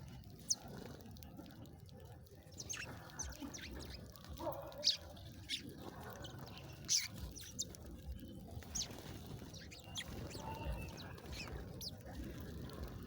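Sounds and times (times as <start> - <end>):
small birds chirping: 2.5 - 13.0.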